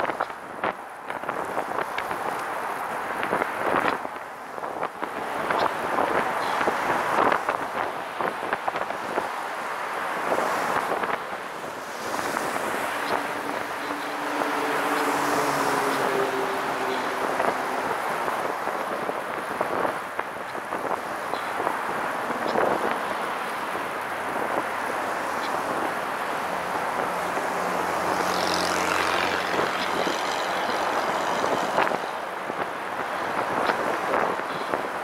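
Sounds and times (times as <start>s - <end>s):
road noise: 0.0s - 35.0s
wind buffeting microphone: 0.0s - 35.0s.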